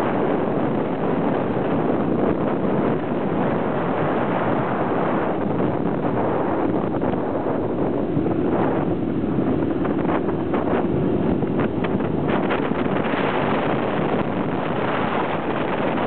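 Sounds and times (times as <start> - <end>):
motorcycle engine humming: 0.0 - 16.0
wind buffeting microphone: 0.0 - 16.0.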